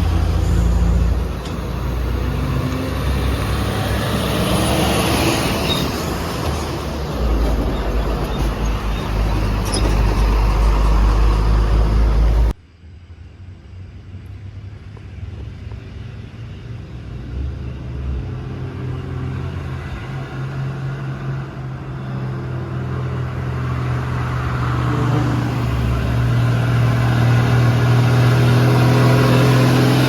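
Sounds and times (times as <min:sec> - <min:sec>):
truck engine roaring under load: 0:00.0 - 0:12.6, 0:17.2 - 0:30.0.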